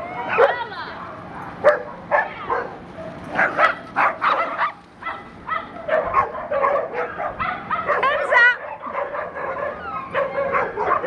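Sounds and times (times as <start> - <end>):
dogs barking: 0.0 - 11.0.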